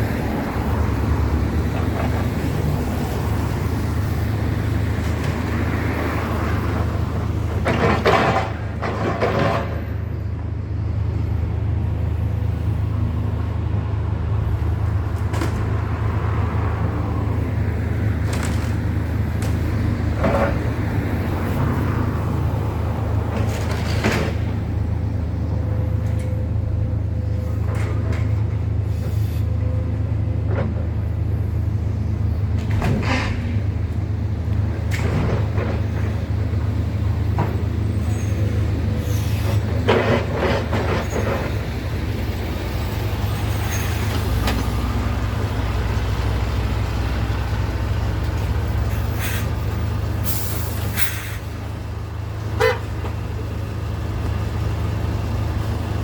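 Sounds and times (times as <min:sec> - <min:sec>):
heavy engine humming: 0:00.0 - 0:56.0.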